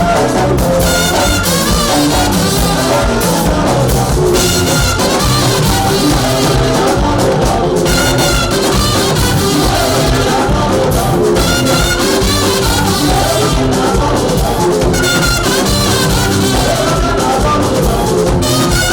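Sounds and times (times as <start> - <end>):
person singing: 0.0 - 18.9
steady drum beat: 0.0 - 18.9
upbeat band music: 0.0 - 18.9.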